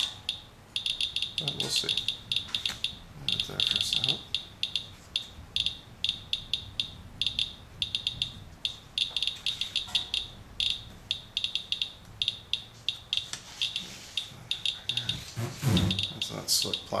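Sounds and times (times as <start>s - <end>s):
geiger counter clicking: 0.0s - 15.3s, 15.9s - 17.0s.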